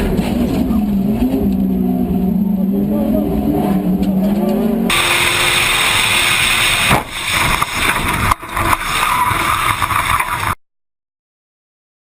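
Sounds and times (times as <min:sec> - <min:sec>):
car road and wind noise: 0:00.0 - 0:10.6.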